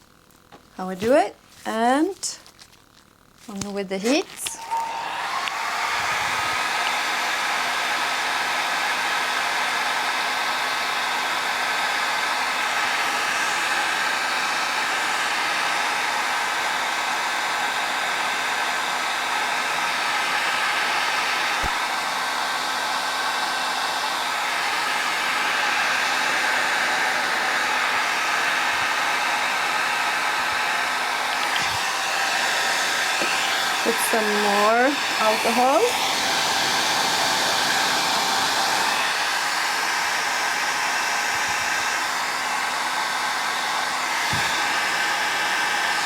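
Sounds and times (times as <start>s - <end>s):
hair dryer running: 0.0s - 2.4s, 3.4s - 46.0s.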